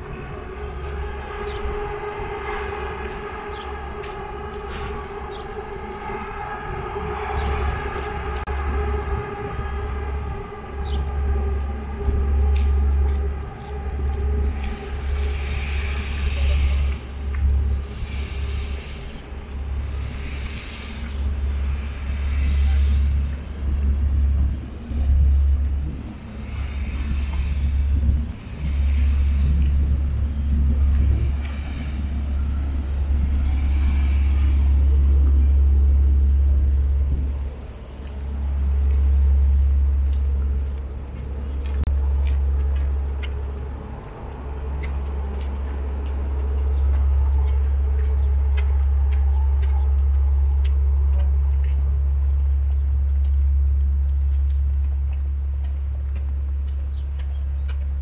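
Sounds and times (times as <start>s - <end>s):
wind buffeting microphone: 0.0s - 58.0s
footsteps on concrete steps: 1.5s - 6.0s, 6.7s - 28.6s, 36.9s - 58.0s.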